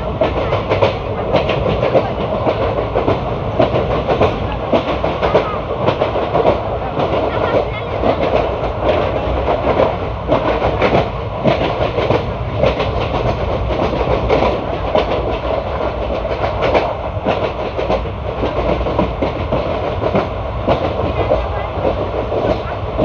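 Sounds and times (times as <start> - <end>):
wheels rumbling on rails: 0.0 - 23.0
clattering clicks and clacks: 0.1 - 23.0.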